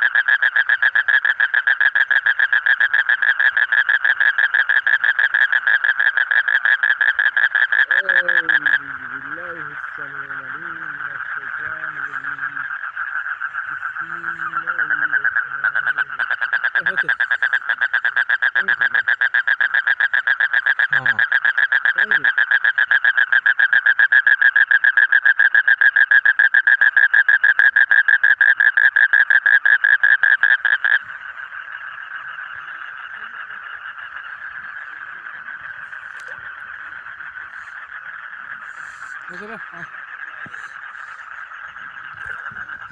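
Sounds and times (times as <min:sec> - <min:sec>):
toad trilling: 0:00.0 - 0:42.9.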